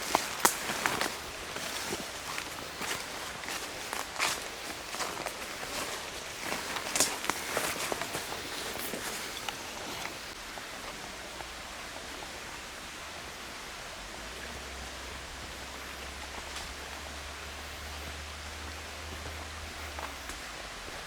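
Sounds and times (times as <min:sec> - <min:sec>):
steady rushing hiss: 0:00.0 - 0:21.0.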